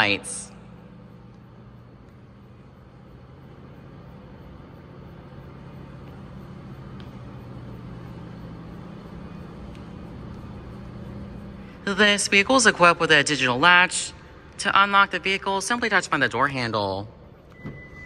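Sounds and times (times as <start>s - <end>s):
low room tone hum: 0.0s - 18.0s.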